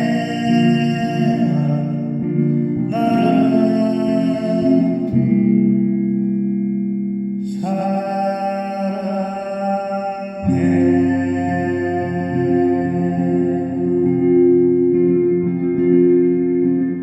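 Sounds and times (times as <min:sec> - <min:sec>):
instrumental music sustained chords: 0:00.0 - 0:07.9, 0:10.4 - 0:17.0.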